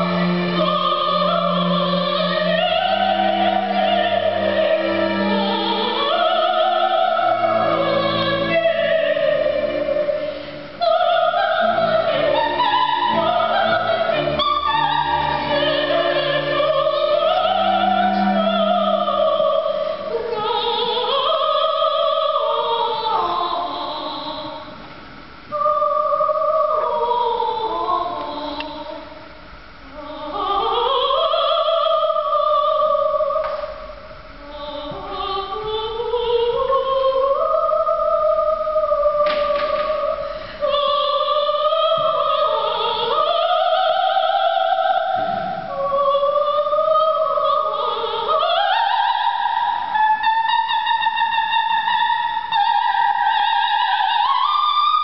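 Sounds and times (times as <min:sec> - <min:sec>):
operatic soprano singing: 0:00.0 - 0:24.8, 0:25.5 - 0:55.0.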